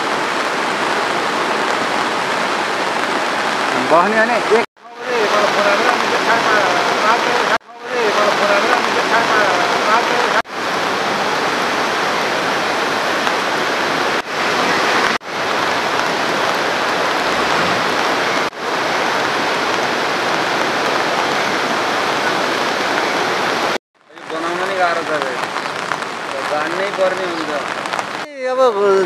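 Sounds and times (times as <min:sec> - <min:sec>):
river rushing: 0:00.0 - 0:28.3.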